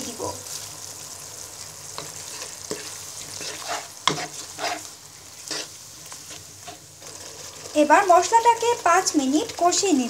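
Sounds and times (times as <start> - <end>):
paste sizzling in hot oil: 0.0 - 10.0
spatula scraping pan: 1.8 - 10.0.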